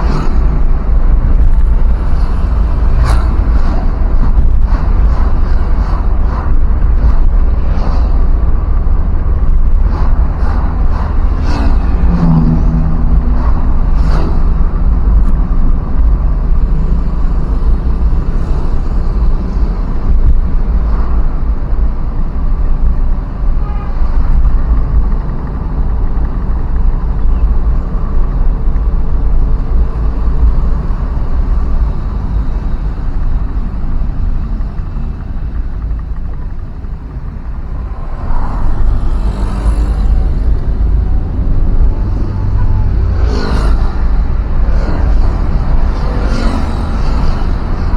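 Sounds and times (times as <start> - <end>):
vehicle rumbling along road: 0.0 - 47.9.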